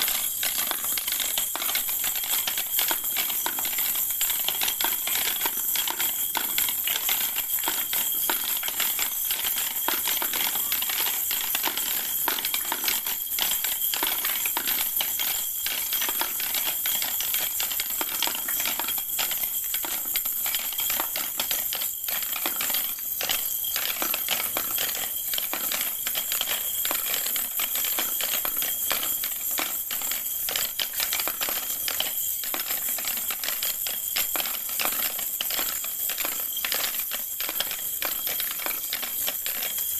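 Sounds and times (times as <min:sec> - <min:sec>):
plastic balls rattling down ramps: 0:00.0 - 0:39.9.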